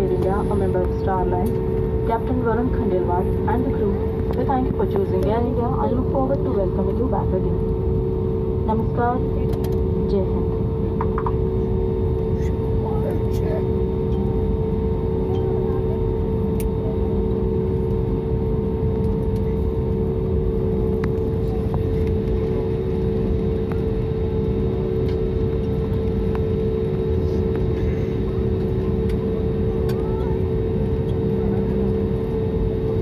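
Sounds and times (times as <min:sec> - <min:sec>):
air-conditioning hum: 0:00.0 - 0:33.0
jet engines droning: 0:00.0 - 0:33.0
low cabin rumble: 0:00.0 - 0:33.0.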